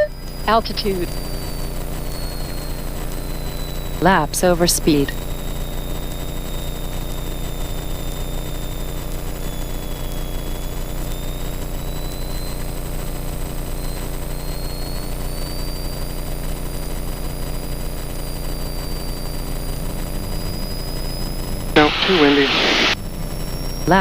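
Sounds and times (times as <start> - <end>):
light aircraft engine drone: 0.0 - 24.0
thin high whine: 0.0 - 24.0.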